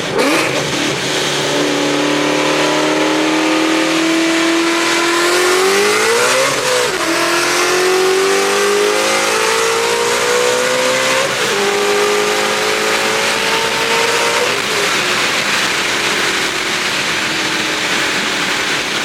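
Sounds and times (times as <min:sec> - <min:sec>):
sports car engine accelerating: 0:00.0 - 0:19.0.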